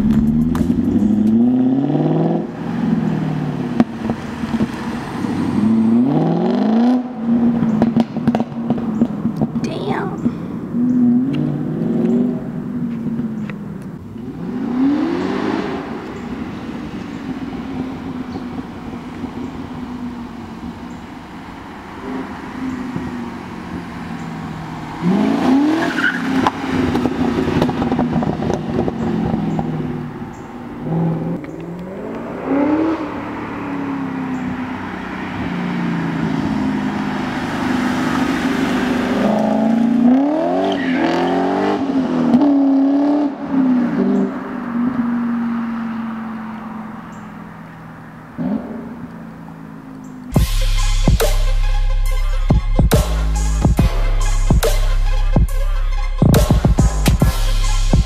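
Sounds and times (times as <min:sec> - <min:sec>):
car engine revving: 0:00.0 - 0:09.6, 0:10.2 - 0:58.0.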